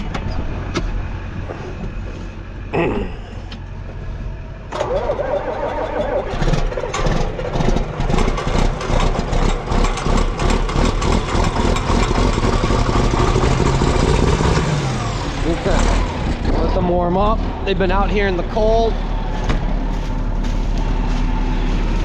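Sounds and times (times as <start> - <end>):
diesel engine starting and running: 0.0 - 22.0.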